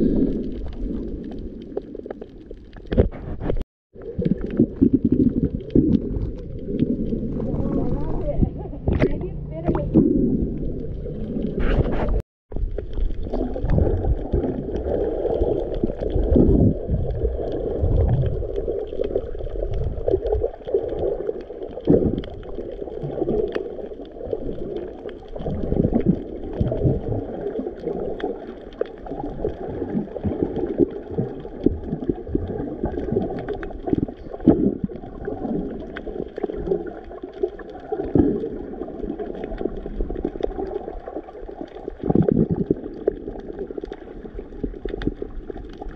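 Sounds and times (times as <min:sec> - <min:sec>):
water gurgling and sloshing: 0:00.0 - 0:45.9.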